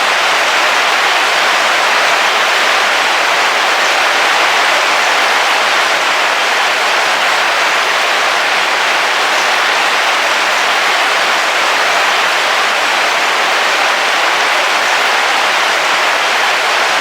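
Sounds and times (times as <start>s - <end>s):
heavy rain on car roof: 0.0s - 17.0s.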